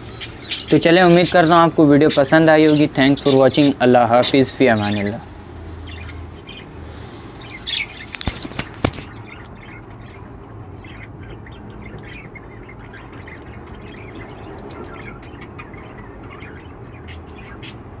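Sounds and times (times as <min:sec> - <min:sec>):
budgerigars chirping: 0:00.0 - 0:05.2, 0:05.8 - 0:06.8, 0:07.4 - 0:18.0
low background hum: 0:00.0 - 0:18.0.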